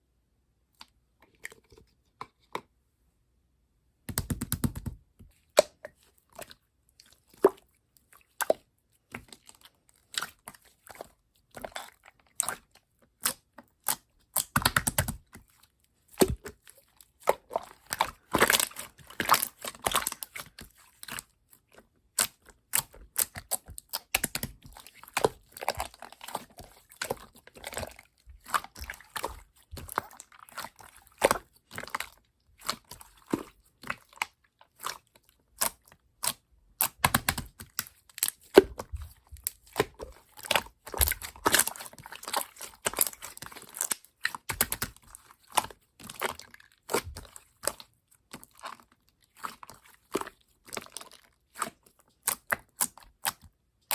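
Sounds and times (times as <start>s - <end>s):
slime squelching and crackling: 4.1s - 53.9s.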